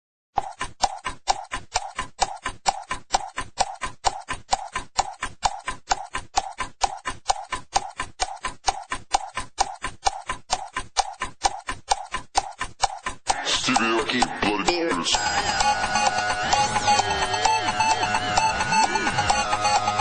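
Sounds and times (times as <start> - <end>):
fast ticking clicks with tone: 0.4 - 20.0.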